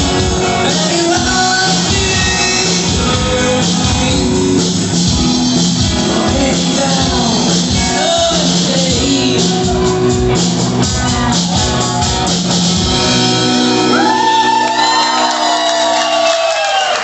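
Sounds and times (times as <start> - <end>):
steady drum beat: 0.0 - 16.0
rock band playing: 0.0 - 17.0.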